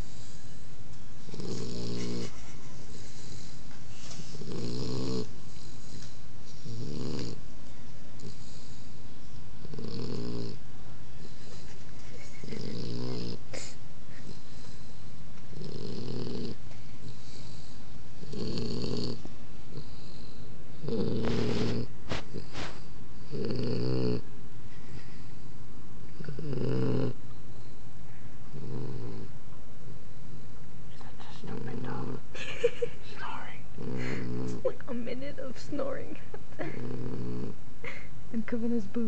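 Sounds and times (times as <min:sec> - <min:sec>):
puppy snoring: 0:00.0 - 0:07.5, 0:08.2 - 0:24.3, 0:26.0 - 0:27.8, 0:28.4 - 0:29.4, 0:30.3 - 0:32.3, 0:33.2 - 0:36.0, 0:36.6 - 0:38.1.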